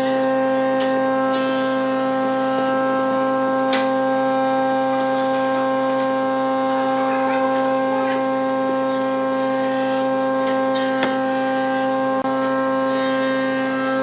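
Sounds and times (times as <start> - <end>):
wood lathe humming whine: 0.0 - 14.0.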